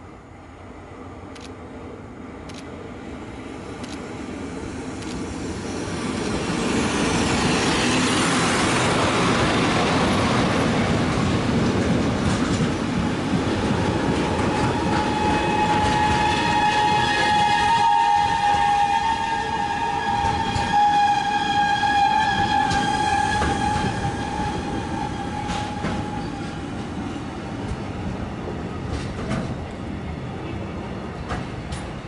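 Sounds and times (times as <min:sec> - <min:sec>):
freight train rumbling past: 0:00.0 - 0:32.0.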